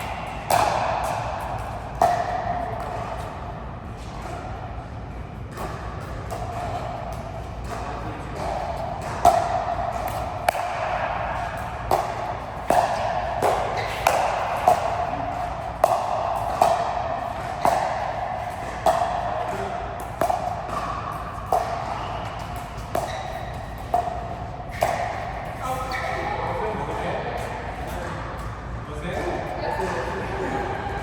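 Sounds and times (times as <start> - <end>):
racket hitting ball: 0.0 - 26.1
steady background noise: 0.0 - 31.0.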